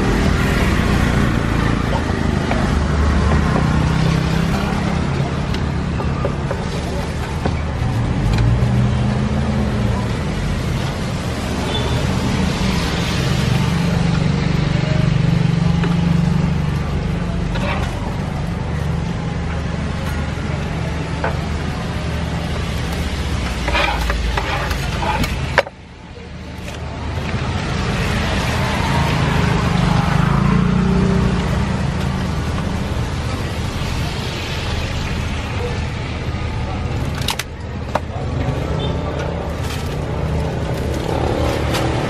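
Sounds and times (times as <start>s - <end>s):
vehicle engines passing: 0.0s - 42.0s.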